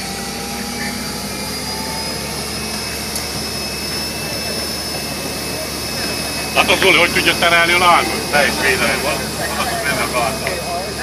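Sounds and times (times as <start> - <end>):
fire engine pump running: 0.0 - 11.0.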